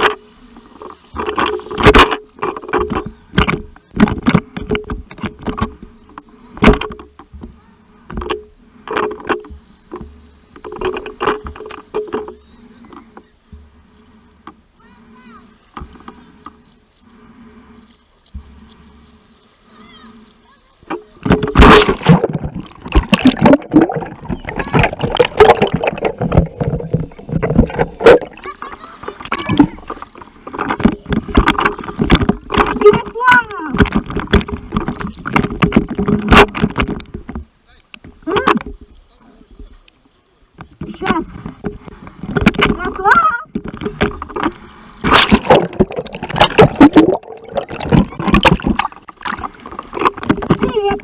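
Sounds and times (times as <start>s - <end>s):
water splashing and sloshing: 0.0s - 39.9s, 40.5s - 51.0s.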